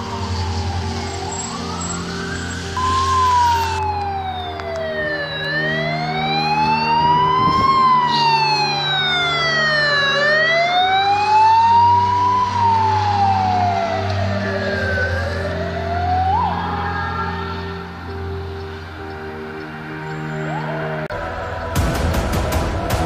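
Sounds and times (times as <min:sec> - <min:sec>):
ambulance siren wailing: 0:00.0 - 0:21.7.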